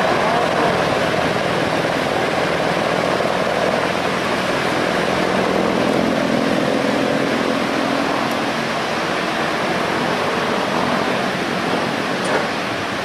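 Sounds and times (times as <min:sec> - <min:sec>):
helicopter turbine and rotor noise: 0:00.0 - 0:13.0.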